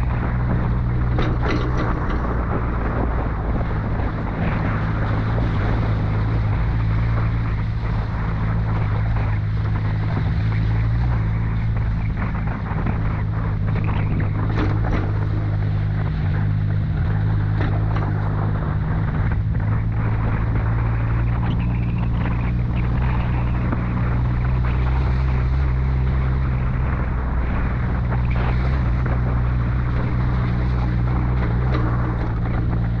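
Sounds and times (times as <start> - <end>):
road and wind rumble: 0.0 - 33.0
vehicle engine droning: 0.0 - 33.0.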